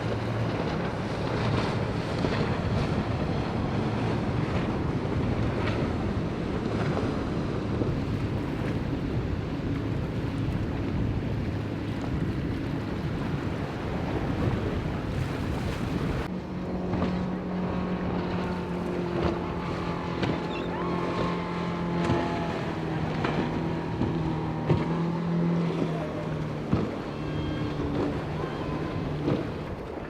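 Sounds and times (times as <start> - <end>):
motorboat engine humming: 0.0 - 30.0
wind buffeting microphone: 0.0 - 30.0.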